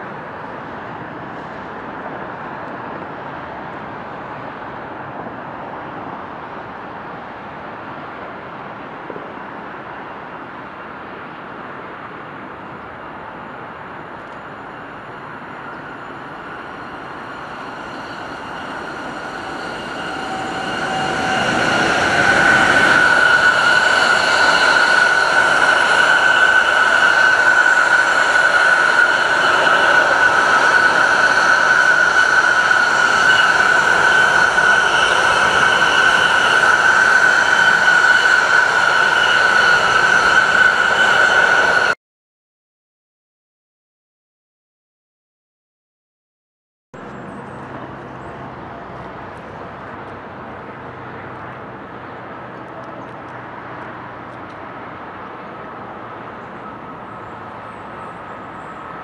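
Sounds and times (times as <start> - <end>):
high-pitched whine: 0.0 - 42.0, 47.0 - 59.0
train wheels running past: 0.0 - 42.0, 47.0 - 59.0.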